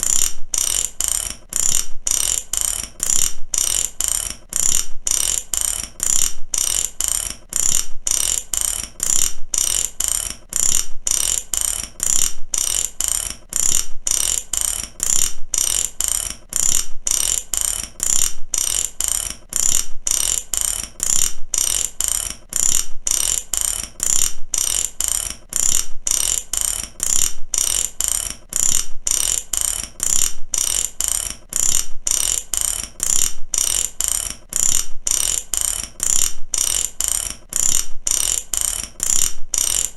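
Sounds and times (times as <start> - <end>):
ratchet clicking fast: 0.0 - 39.9.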